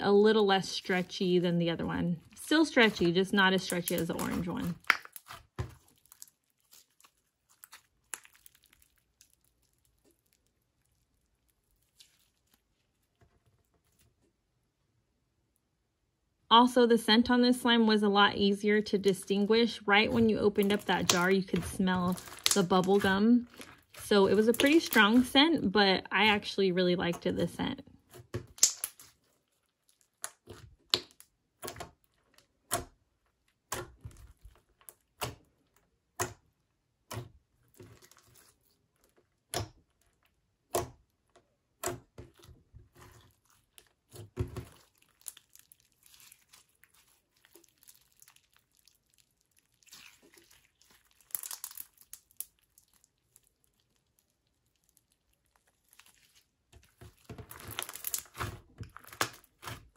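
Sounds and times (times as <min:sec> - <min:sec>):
slime popping and crackling: 0:00.5 - 0:14.0, 0:18.9 - 0:26.4, 0:28.1 - 0:41.2, 0:41.8 - 0:59.9.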